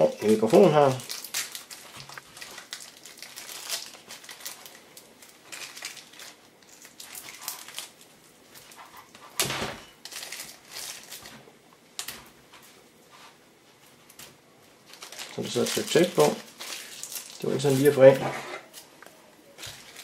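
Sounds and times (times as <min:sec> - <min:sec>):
plastic wrapping crinkling: 0:00.0 - 0:12.7, 0:13.9 - 0:20.0.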